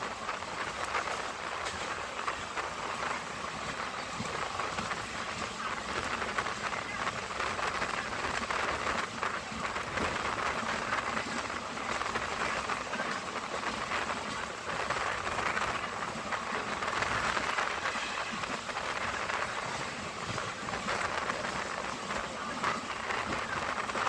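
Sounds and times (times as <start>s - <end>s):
train rushing at speed: 0.0s - 24.0s.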